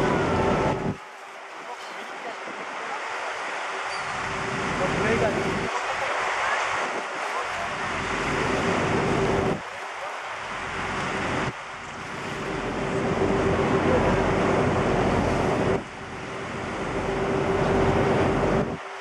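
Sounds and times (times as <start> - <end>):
boat engine humming: 0.0 - 19.0
rush of wind and water: 0.0 - 19.0.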